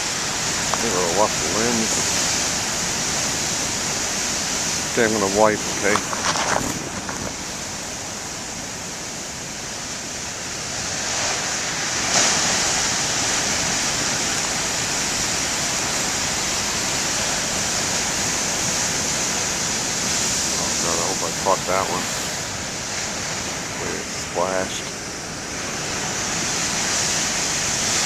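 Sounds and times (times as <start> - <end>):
ocean waves breaking: 0.0 - 28.0
surf rushing: 0.0 - 28.0.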